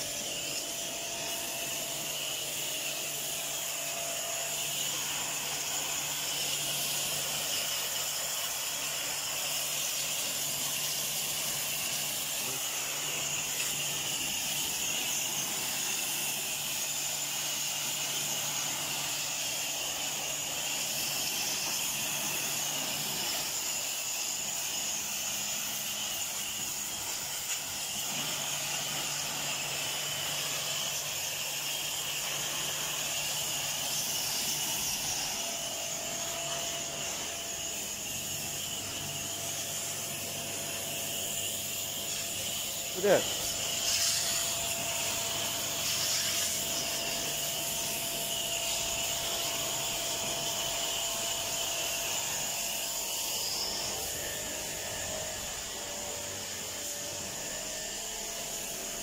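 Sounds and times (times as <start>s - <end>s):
pressure washer jet hissing: 0.0s - 59.0s.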